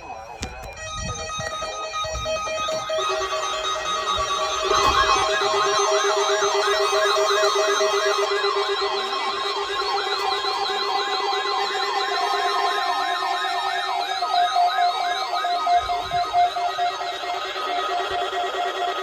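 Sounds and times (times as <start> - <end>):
pulsing beeps: 0.0 - 19.0
warbling siren tones: 0.0 - 19.0
steady alert tone: 0.7 - 18.4.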